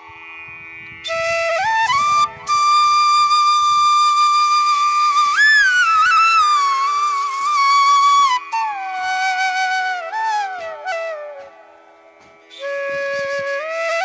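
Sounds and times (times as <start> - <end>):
slow flute melody: 1.0 - 14.0.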